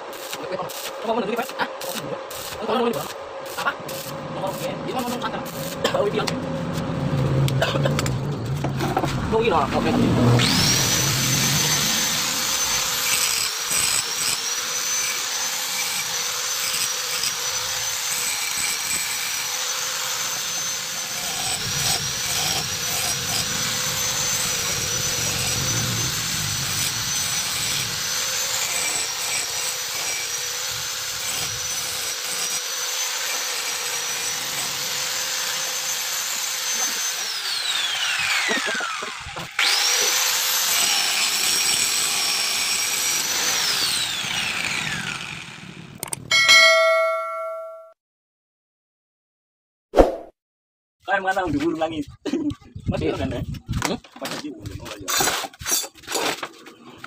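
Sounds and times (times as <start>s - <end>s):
angle grinder grinding metal: 0.0s - 47.7s.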